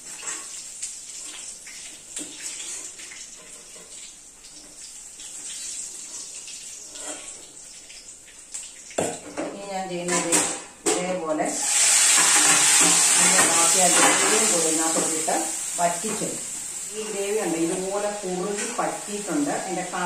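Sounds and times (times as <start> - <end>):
hot oil sizzling in a wok: 0.0 - 20.0.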